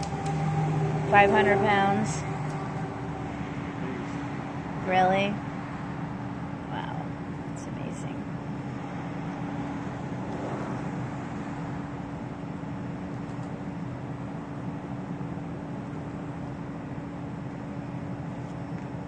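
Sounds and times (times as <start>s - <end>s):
crane engine and hydraulic hum: 0.0s - 19.0s.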